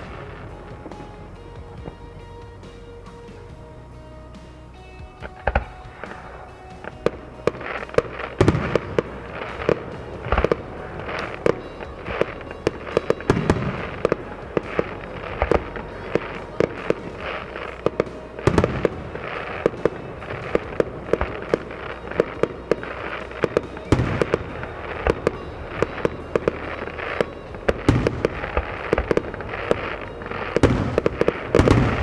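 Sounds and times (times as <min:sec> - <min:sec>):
fireworks crackling: 0:00.0 - 0:32.0
fireworks sharp bangs: 0:00.0 - 0:32.0
heavy fireworks booms: 0:00.0 - 0:32.0.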